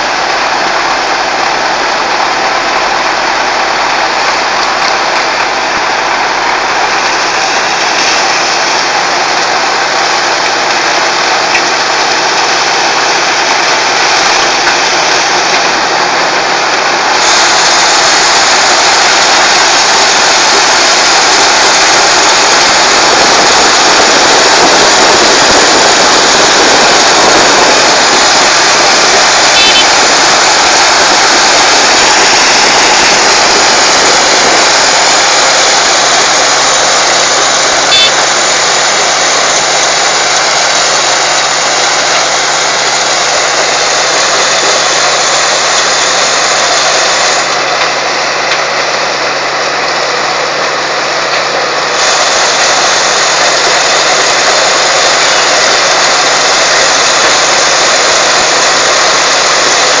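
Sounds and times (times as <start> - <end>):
harvester engine and machinery: 0.0 - 60.0.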